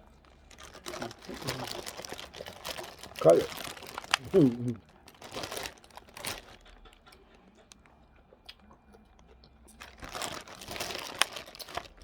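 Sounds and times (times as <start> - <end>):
chewing and crunching: 0.0 - 12.0.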